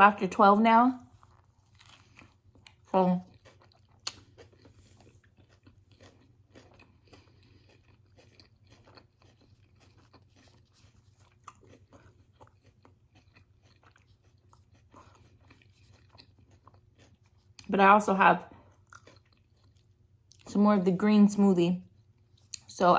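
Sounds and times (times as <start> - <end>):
chewing and crunching food: 1.0 - 21.1, 21.8 - 22.9.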